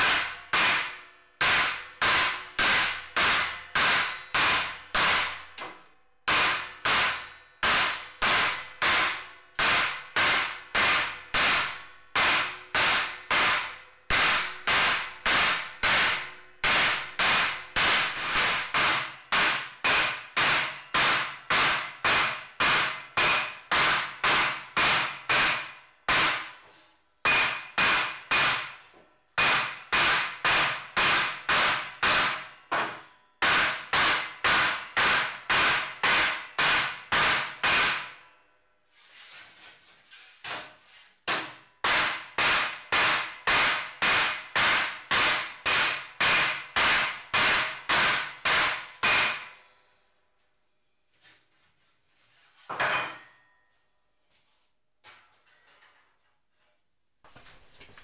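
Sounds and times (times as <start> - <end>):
mallet beating sheet metal: 0.0 - 38.4, 40.4 - 49.7.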